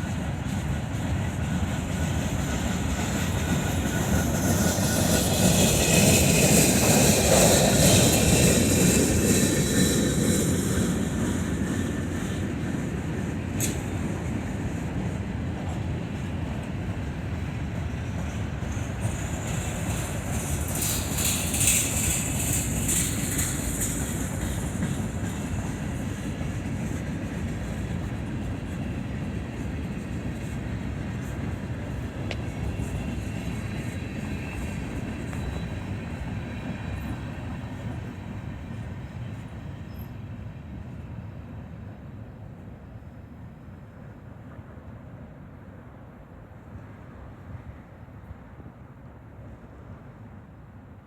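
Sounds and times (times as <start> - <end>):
train wheels rumbling on rails: 0.0 - 48.5.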